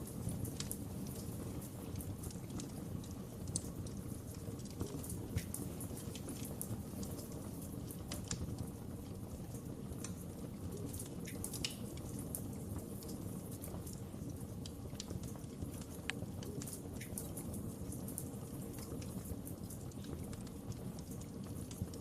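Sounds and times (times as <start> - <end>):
fire pops and snaps: 0.0 - 22.0
low rumble of flames: 0.0 - 22.0.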